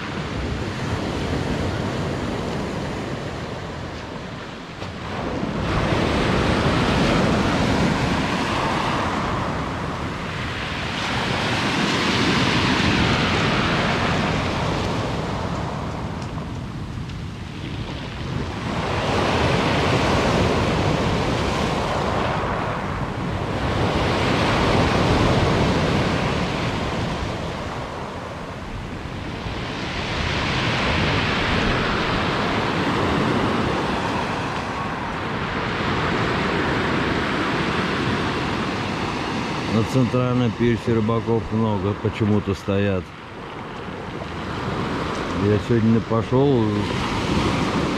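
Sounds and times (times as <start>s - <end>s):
surf washing over pebble beach: 0.0s - 47.9s.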